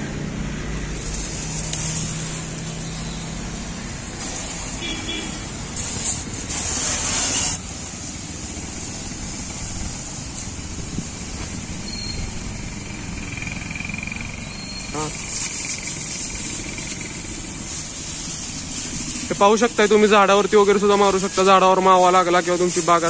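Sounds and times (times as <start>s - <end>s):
water spray hissing: 0.1s - 23.0s.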